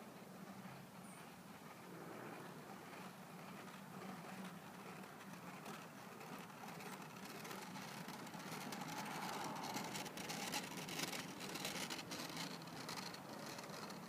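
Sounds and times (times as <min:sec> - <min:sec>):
board wheels rolling on asphalt: 0:00.0 - 0:14.0.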